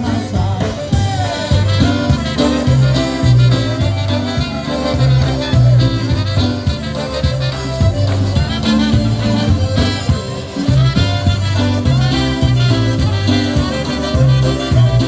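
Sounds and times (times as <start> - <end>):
bass notes: 0.0 - 15.0
polka band playing: 0.0 - 15.0.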